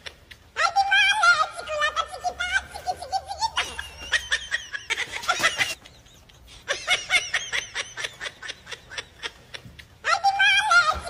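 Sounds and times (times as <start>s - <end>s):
person laughing: 0.0s - 11.0s.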